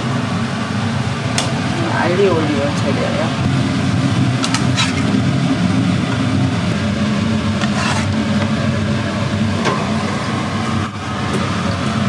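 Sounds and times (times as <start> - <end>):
loud mechanical hum: 0.0 - 12.0.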